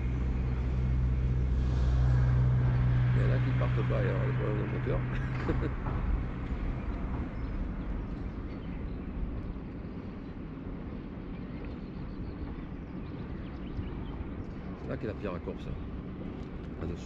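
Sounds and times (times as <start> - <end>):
distant motorboats droning: 0.0 - 17.0.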